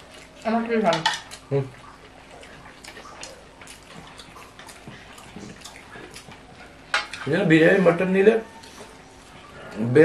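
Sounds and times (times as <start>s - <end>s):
fingers mixing food on plates: 0.0s - 10.0s.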